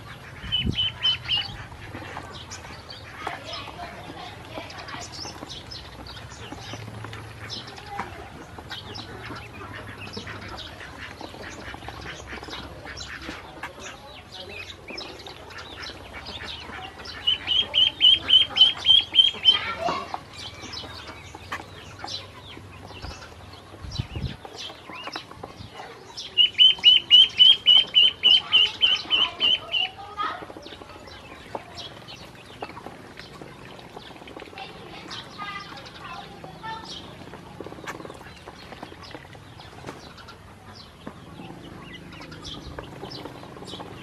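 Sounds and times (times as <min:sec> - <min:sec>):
ducklings peeping: 0:00.0 - 0:44.0.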